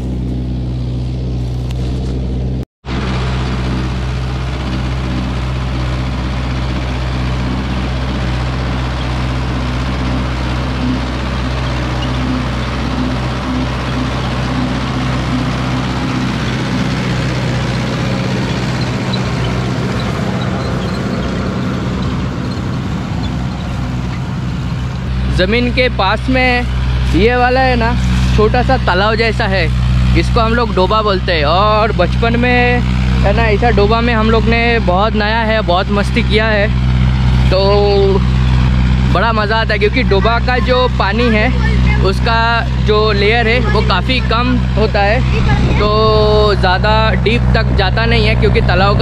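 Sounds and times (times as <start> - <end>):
tractor diesel engine under load: 0.0 - 49.0.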